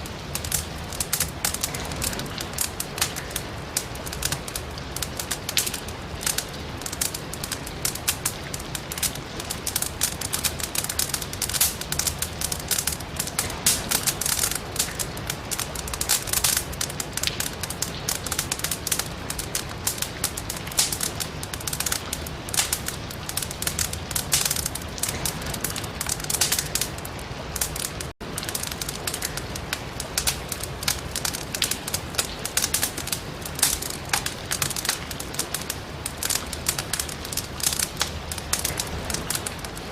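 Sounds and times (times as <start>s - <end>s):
firewood crackling in fireplace: 0.0s - 39.9s
rain hissing: 0.0s - 39.9s.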